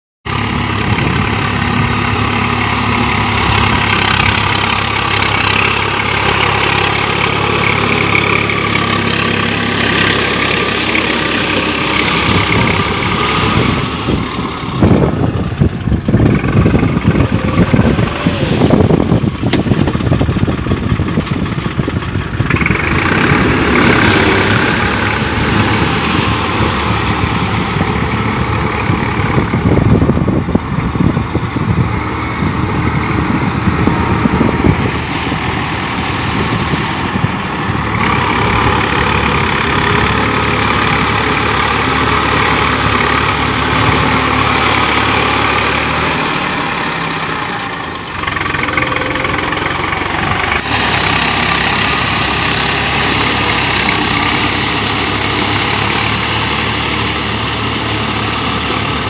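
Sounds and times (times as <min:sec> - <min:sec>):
tractor diesel engine under load: 0:00.2 - 0:59.0.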